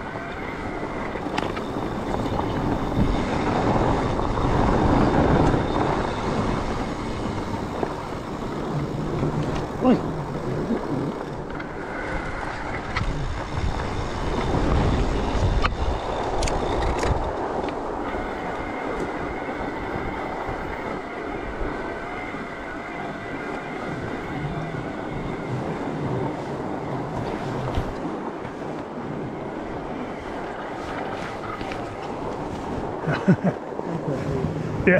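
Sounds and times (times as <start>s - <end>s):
bike rolling and rattling on snow: 0.0s - 34.9s.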